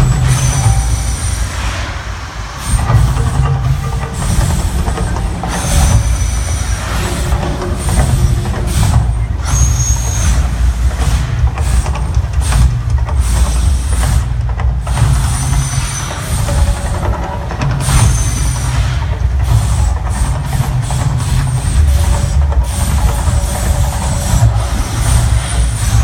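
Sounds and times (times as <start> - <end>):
deep rumble: 0.0 - 26.0.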